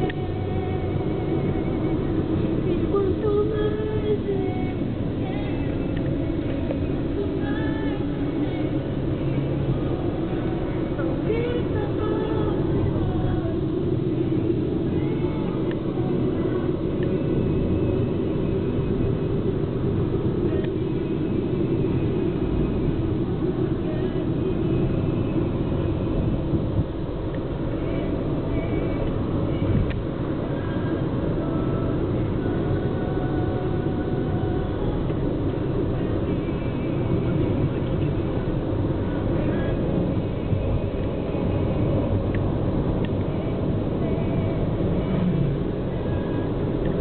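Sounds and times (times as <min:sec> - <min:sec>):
car engine and road noise: 0:00.0 - 0:47.0.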